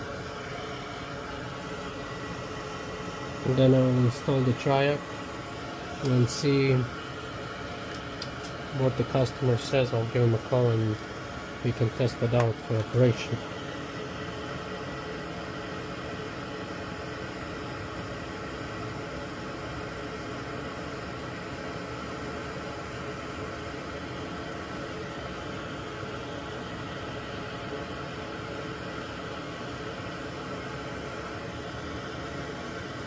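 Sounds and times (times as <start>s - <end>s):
equipment hiss and hum: 0.0s - 33.0s.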